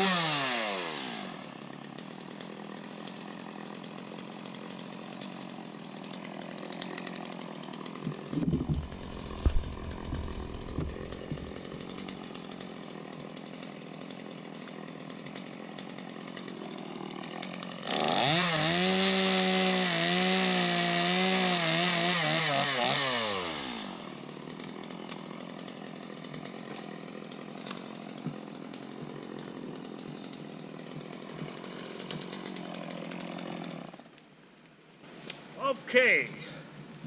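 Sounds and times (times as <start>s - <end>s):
chainsaw cutting wood: 0.0s - 34.3s.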